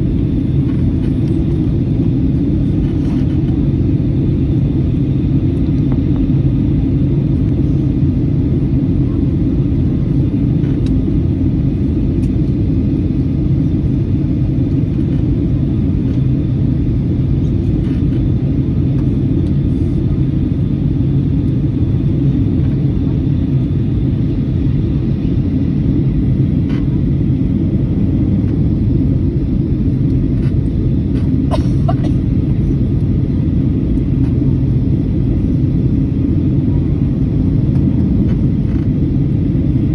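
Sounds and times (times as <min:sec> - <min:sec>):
jet cabin engine drone: 0:00.0 - 0:39.9.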